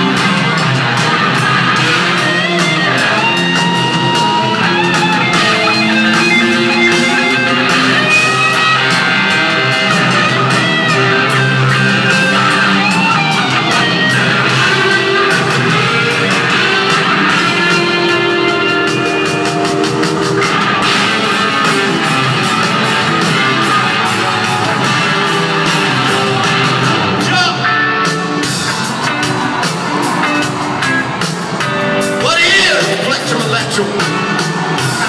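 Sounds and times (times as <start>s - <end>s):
electric guitar bending notes: 0.0s - 32.2s
live rock band playing: 0.0s - 35.0s.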